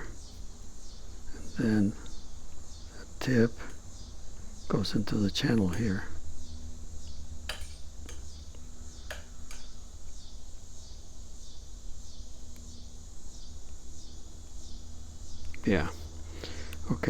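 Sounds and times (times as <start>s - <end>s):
insects chirring: 0.0s - 17.0s
steady low hum: 0.0s - 17.0s.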